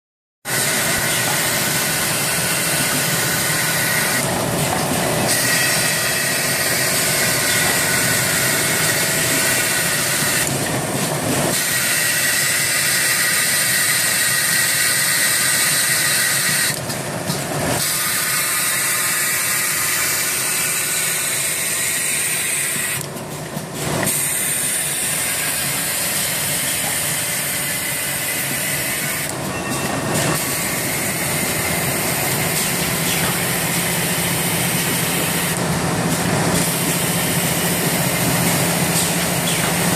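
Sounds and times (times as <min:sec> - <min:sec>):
gluing machine running: 0:00.5 - 0:39.9.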